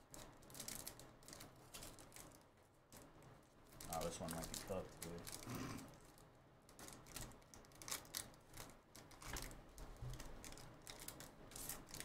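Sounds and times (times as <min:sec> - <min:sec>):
foil wrapper crinkling: 0:00.1 - 0:12.0.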